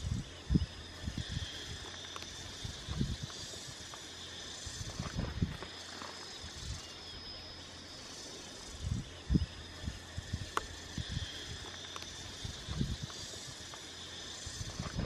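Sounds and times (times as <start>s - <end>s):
high background hiss: 0.0s - 15.0s.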